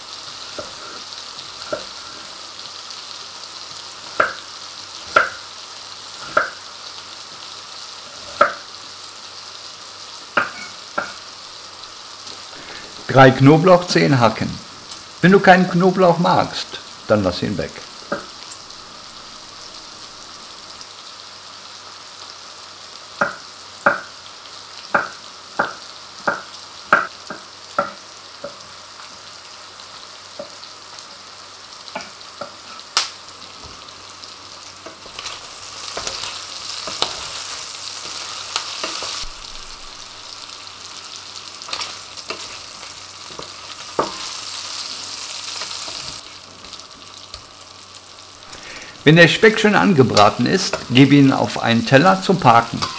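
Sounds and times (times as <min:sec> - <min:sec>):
bacon sizzling in a frying pan: 0:00.0 - 0:52.9.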